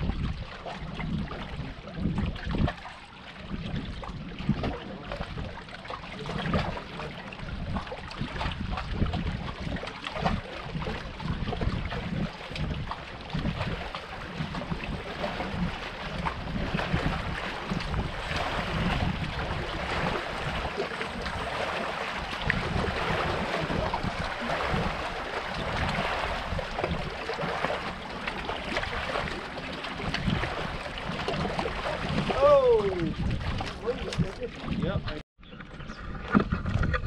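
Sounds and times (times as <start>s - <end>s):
water lapping against rocks: 0.0s - 37.0s
wind buffeting microphone: 0.0s - 37.0s.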